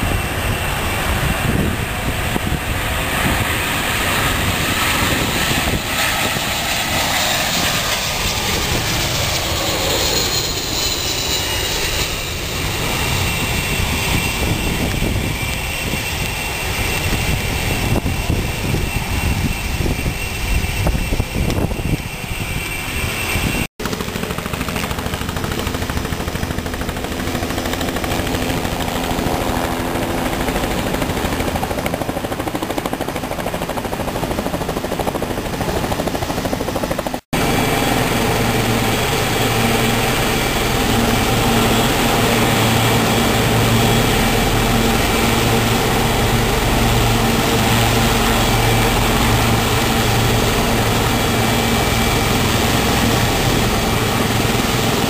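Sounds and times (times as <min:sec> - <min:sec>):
helicopter rotor throb: 0:00.0 - 0:55.0
helicopter turbine whine: 0:00.0 - 0:55.0.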